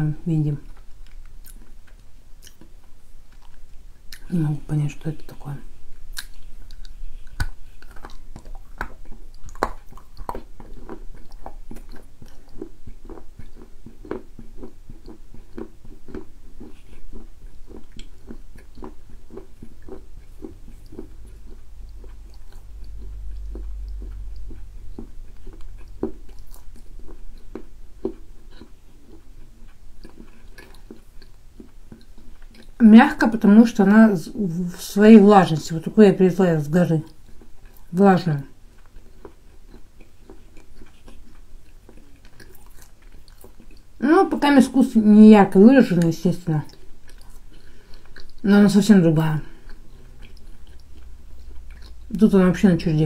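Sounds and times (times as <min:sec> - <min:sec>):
chewing with soft crunches: 0:00.5 - 0:33.8, 0:36.6 - 0:44.0, 0:44.8 - 0:52.6.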